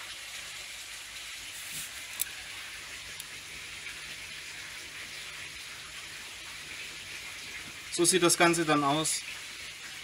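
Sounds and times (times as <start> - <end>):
water hiss: 0.0 - 10.0.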